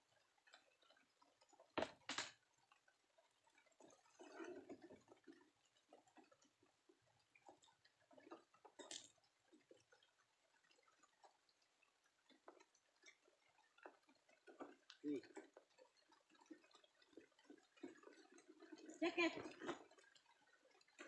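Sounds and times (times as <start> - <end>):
faint ticks and taps: 0.1 - 21.0.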